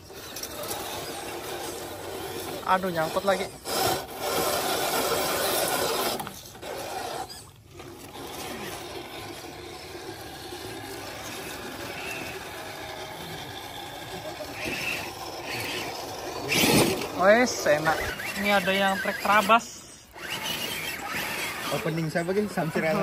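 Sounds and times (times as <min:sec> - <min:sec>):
toy car scraping against roots: 0:00.0 - 0:23.0.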